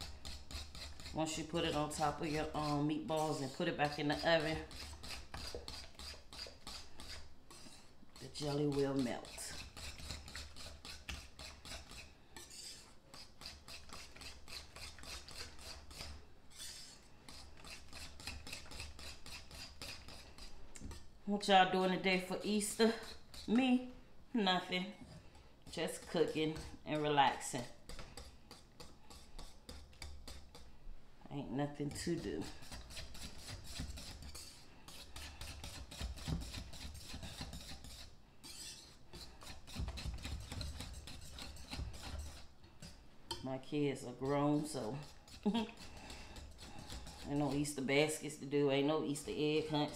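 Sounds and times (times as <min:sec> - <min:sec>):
whisk scraping glass bowl: 0:00.0 - 0:23.9, 0:25.7 - 0:30.7, 0:31.8 - 0:49.9.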